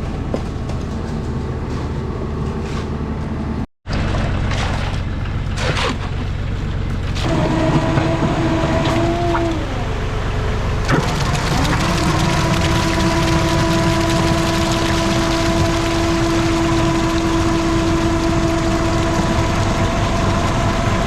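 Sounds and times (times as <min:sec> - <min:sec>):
truck engine drone: 0:00.0 - 0:21.0.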